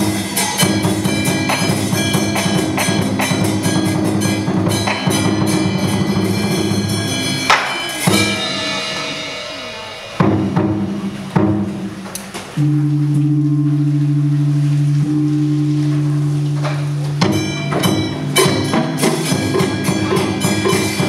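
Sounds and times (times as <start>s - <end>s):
ringing percussion strikes: 0.0s - 12.0s, 14.2s - 21.0s
fast percussion roll: 0.0s - 12.8s, 15.8s - 21.0s
held low notes: 0.0s - 21.0s.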